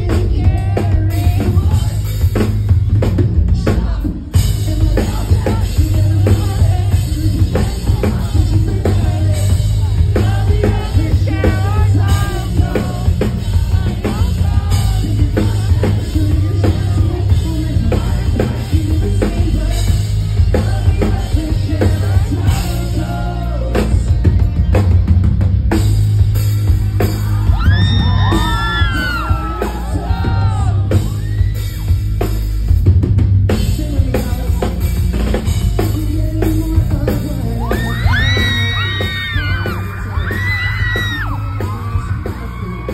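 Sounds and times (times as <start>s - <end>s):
person singing: 0.0s - 2.5s, 3.1s - 24.5s, 27.0s - 31.6s, 33.5s - 42.9s
rock band playing live: 0.0s - 42.9s.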